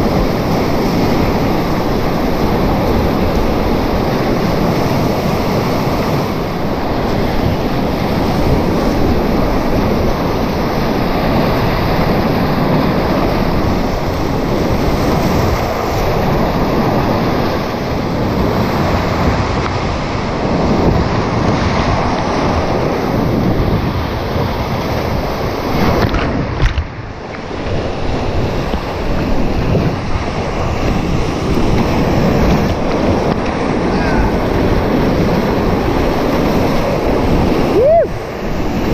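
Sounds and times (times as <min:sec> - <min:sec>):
wave breaking over boat: 0:00.0 - 0:38.9
whitewater rapids rushing: 0:00.0 - 0:38.9.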